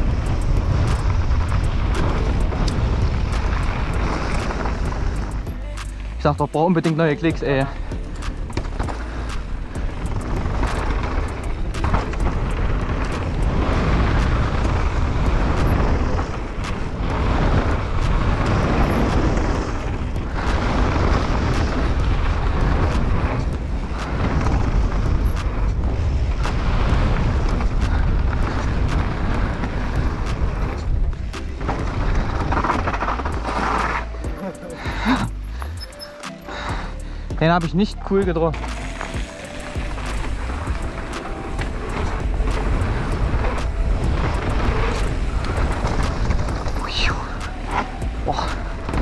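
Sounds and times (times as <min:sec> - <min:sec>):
wind rumbling over microphone: 0:00.0 - 0:35.6, 0:37.3 - 0:49.0
bike clicks and clatter: 0:00.0 - 0:49.0
tyres crunching over gravel: 0:00.0 - 0:49.0.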